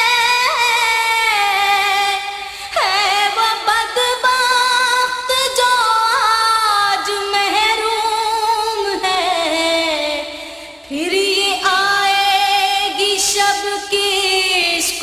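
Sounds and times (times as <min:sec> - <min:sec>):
woman singing devotional song: 0:00.0 - 0:15.0.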